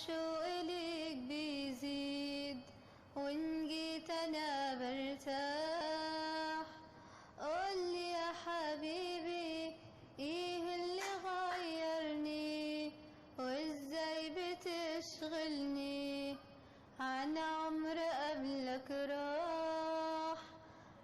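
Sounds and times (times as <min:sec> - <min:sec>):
girl singing unaccompanied: 0:00.0 - 0:06.8, 0:07.4 - 0:20.6.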